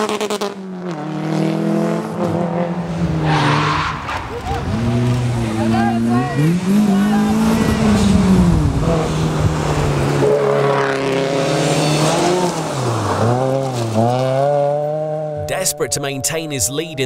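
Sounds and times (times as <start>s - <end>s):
rally car engine revving: 0.0s - 16.6s.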